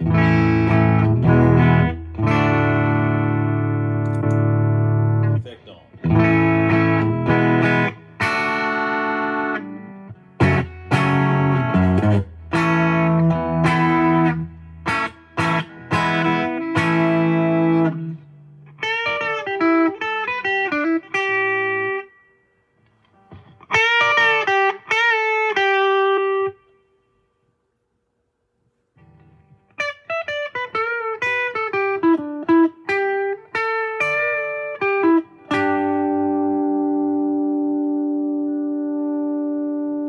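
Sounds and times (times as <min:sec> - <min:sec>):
clean electric guitar: 0:00.0 - 0:27.3, 0:28.9 - 0:40.0.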